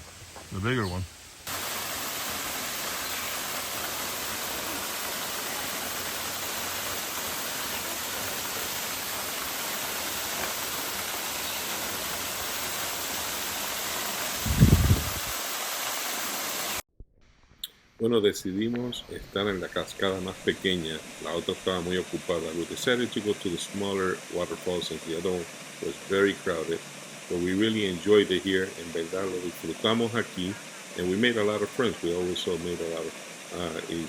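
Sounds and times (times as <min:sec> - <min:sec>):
waterfall rushing: 0:01.5 - 0:16.8, 0:19.9 - 0:34.0.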